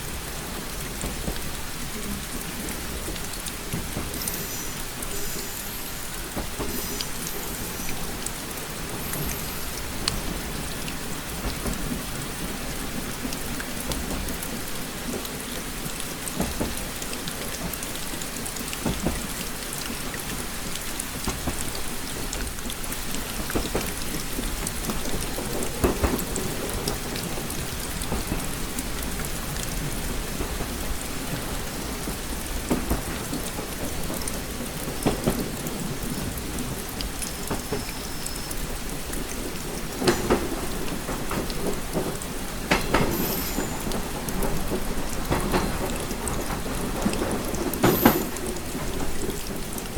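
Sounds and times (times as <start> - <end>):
rain pattering on a window: 0.0 - 49.9.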